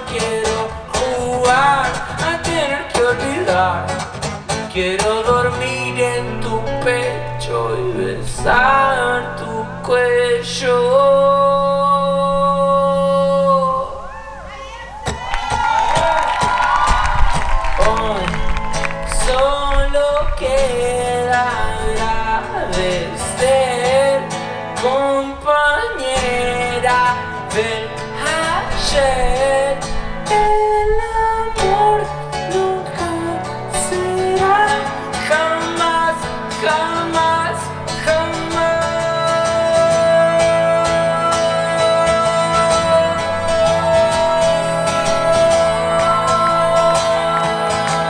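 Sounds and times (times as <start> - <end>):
man singing: 0.0 - 14.1, 17.7 - 48.0
acoustic guitar: 0.0 - 48.0.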